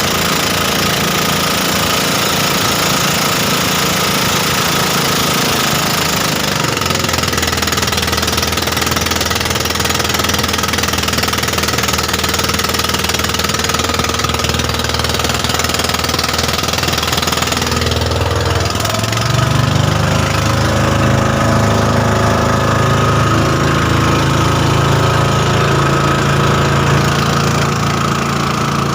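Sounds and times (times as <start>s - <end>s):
motorboat engine running: 0.0s - 28.9s.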